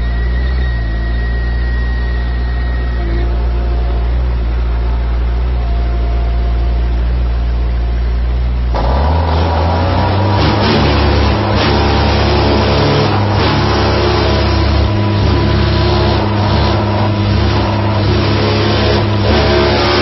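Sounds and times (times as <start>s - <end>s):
engine running and revving: 0.0s - 20.0s.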